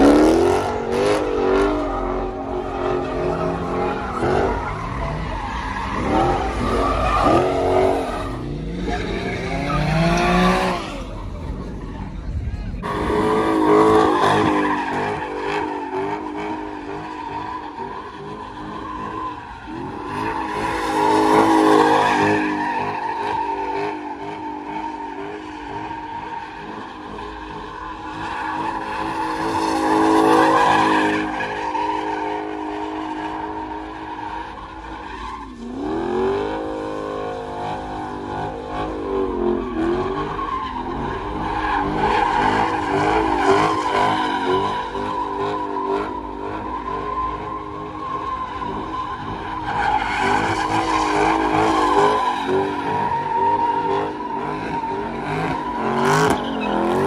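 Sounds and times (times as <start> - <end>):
car engines revving hard: 0.0 - 57.0
tyre squeal: 1.7 - 11.0, 13.8 - 57.0.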